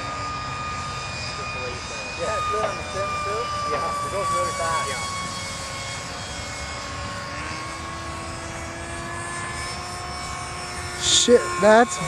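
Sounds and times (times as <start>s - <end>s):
model jet fan whining: 0.0s - 12.0s.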